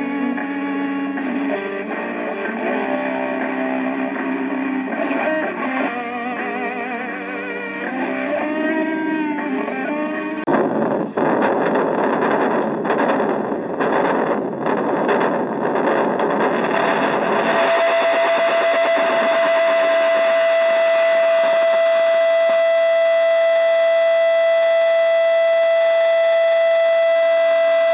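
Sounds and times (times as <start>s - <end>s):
distorted guitar pedal noise: 0.0s - 27.9s
steady pitched tone: 0.0s - 27.9s.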